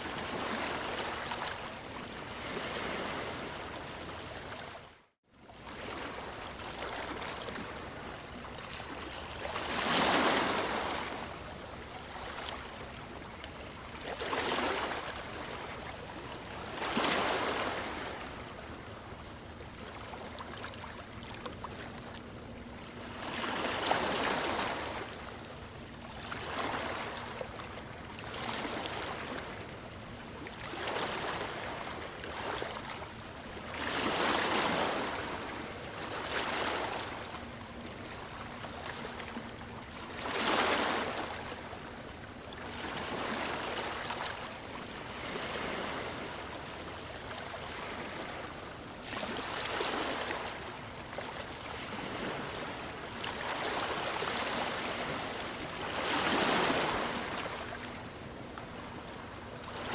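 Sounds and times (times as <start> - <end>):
ocean waves breaking on beach: 0.0 - 4.8, 5.6 - 59.9.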